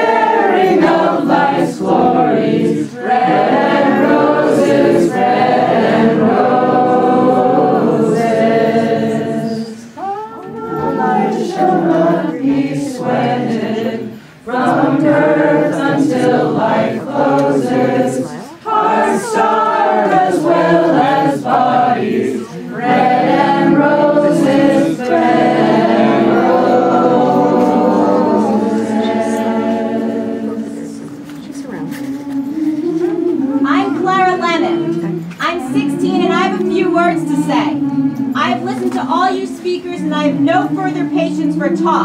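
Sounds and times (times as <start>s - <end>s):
group singing unaccompanied: 0.0s - 42.0s.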